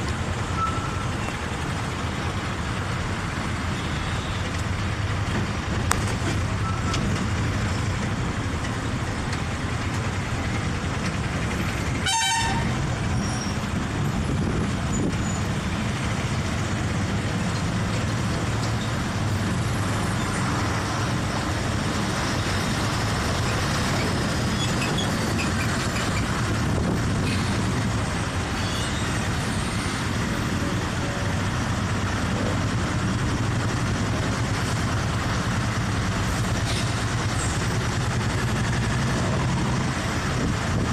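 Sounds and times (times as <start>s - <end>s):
tyres on wet road: 0.0s - 40.9s
vehicle engine and road rumble: 0.0s - 40.9s.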